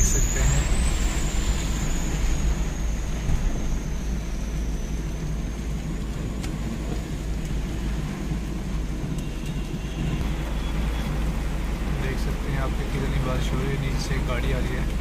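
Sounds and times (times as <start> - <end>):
car rolling low rumble: 0.0 - 15.0
heavy rain on car roof: 0.0 - 15.0.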